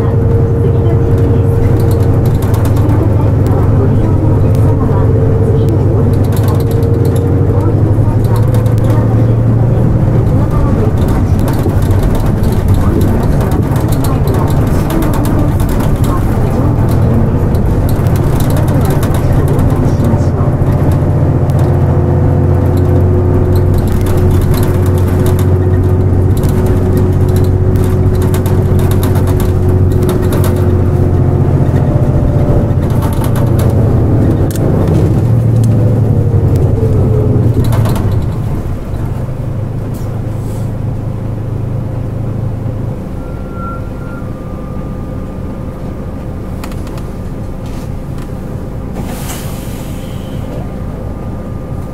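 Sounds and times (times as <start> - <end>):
bus diesel engine hum: 0.0 - 51.9
drivetrain whine: 0.0 - 51.9.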